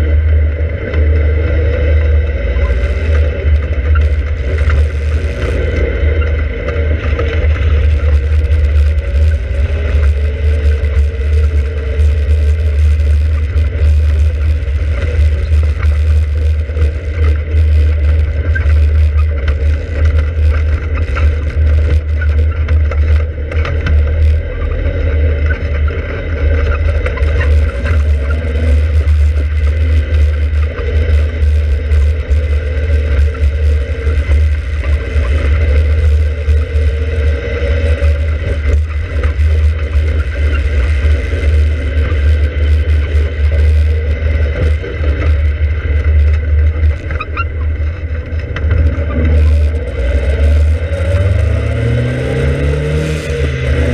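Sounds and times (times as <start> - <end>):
sports car engine: 0.0 - 53.9
wind rumble on microphone: 0.0 - 53.9.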